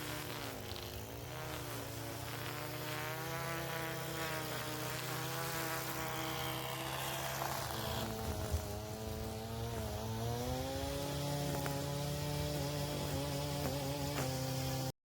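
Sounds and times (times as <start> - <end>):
small engine buzzing: 0.0 - 15.0.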